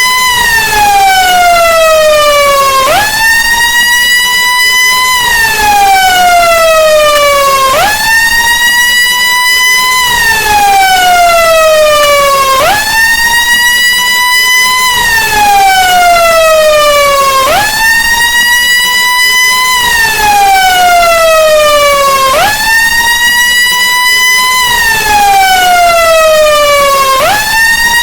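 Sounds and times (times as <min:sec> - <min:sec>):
emergency siren wailing: 0:00.0 - 0:28.0.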